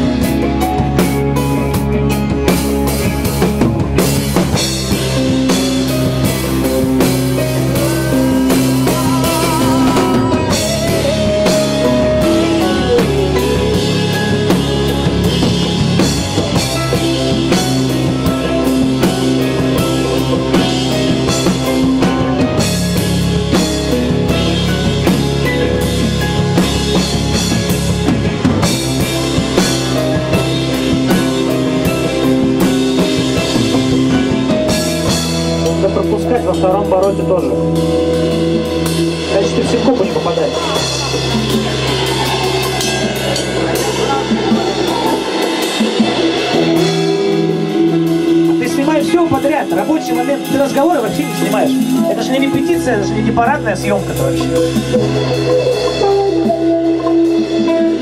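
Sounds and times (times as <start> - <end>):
drum kit with snare and cymbals: 0.0 - 58.0
sustained guitar notes: 0.0 - 58.0.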